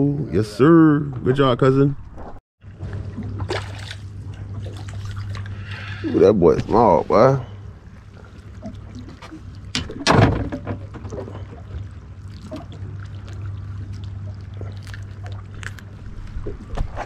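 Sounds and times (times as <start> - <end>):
steady low rumble: 0.0 - 17.0
water lapping against boat hull: 2.2 - 17.0.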